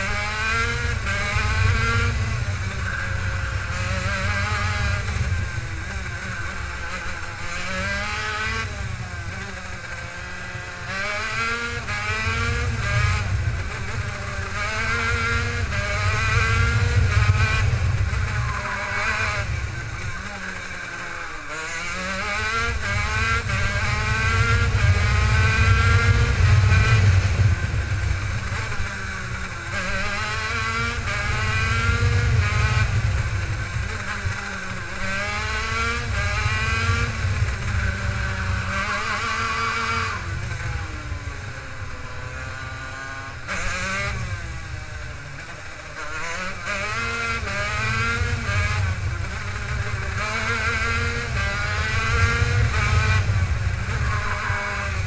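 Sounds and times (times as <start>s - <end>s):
kart engine accelerating: 0.0s - 55.0s.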